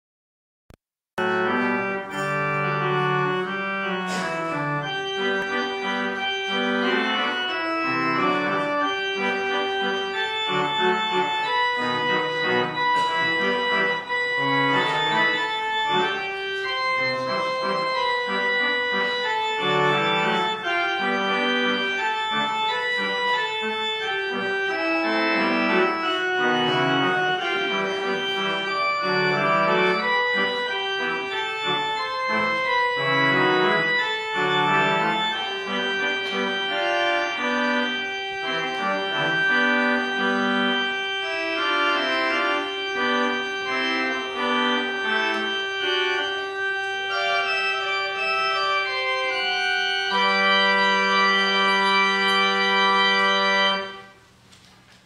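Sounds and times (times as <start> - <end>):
church organ music: 1.2 - 55.0.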